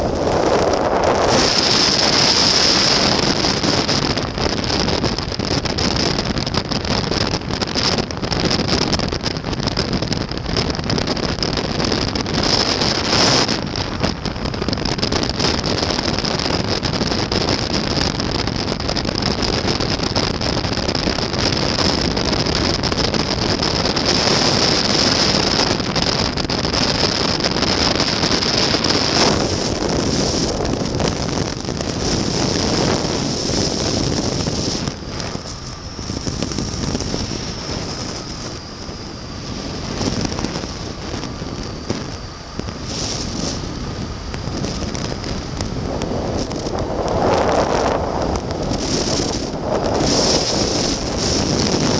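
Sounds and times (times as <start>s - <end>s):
aircraft engine and propeller: 0.0s - 51.9s
wind rush on microphone: 0.0s - 51.9s.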